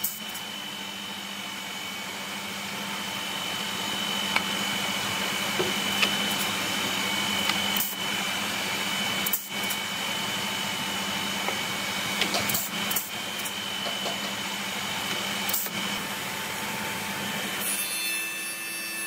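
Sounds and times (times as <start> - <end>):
woodshop machine droning and whining: 0.0 - 19.0.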